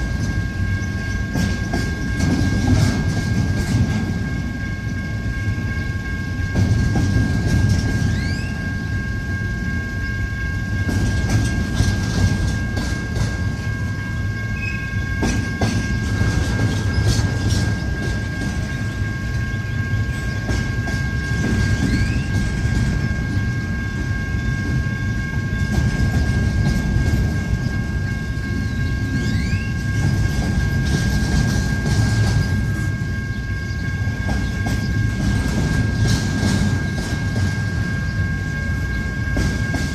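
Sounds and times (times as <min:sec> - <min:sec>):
wheels clattering over rail joints: 0:00.0 - 0:05.0, 0:06.5 - 0:08.7, 0:10.8 - 0:13.8, 0:14.6 - 0:38.3
freight train rumble: 0:00.0 - 0:39.9.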